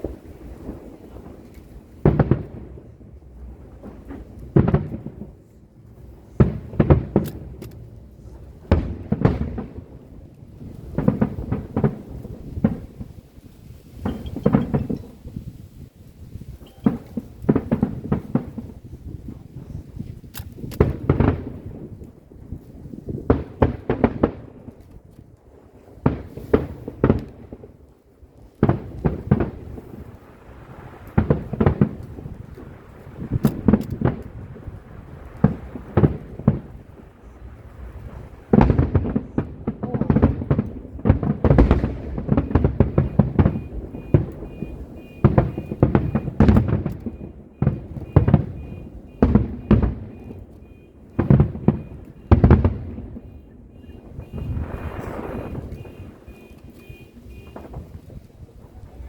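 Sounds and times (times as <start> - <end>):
fireworks booming and cracking: 0.0 - 59.0.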